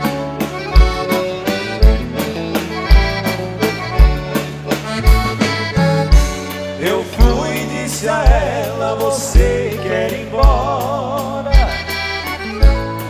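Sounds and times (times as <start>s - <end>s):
accordion waltz: 0.0s - 13.0s
low bass stroke: 1.0s - 13.0s.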